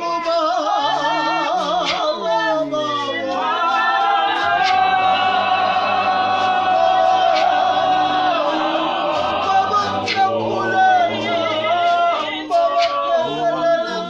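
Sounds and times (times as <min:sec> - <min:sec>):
church choir singing: 0:00.0 - 0:14.0.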